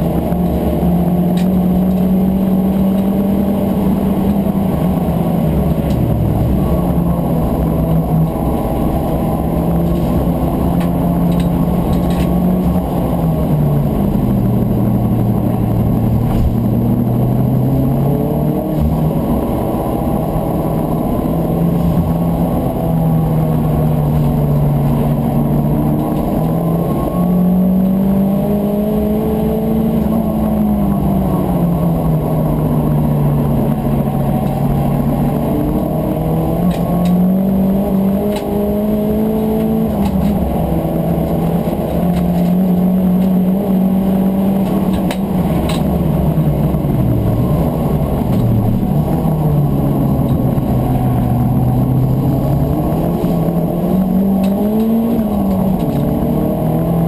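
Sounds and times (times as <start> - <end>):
race car engine revving: 0.0 - 57.0
road and tyre noise: 0.0 - 57.0.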